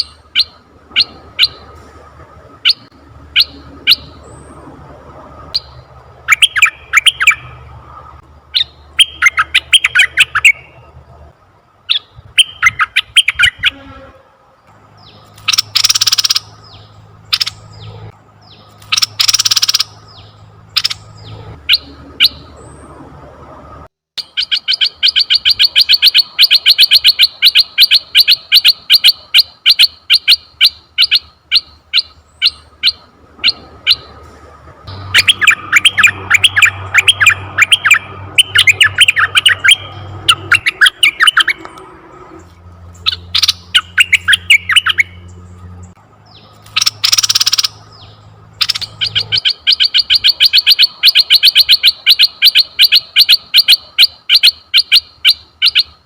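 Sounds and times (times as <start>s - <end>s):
bird calls and chattering: 0.0s - 1.8s, 2.6s - 4.7s, 5.5s - 11.0s, 11.8s - 13.8s, 14.7s - 23.0s, 24.2s - 34.2s, 34.9s - 56.0s.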